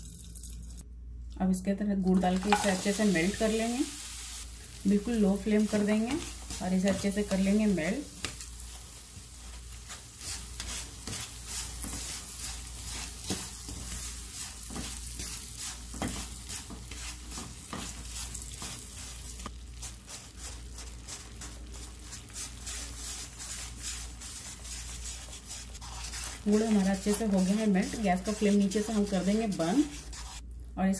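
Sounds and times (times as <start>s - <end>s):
sizzling and crackling in pan: 2.3s - 30.4s
wooden spatula scraping pan: 5.5s - 30.4s.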